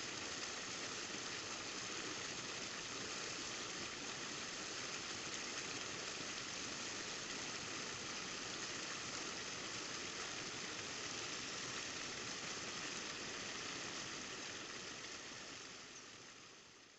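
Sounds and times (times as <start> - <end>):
water pouring over rock ledge: 0.0 - 16.5.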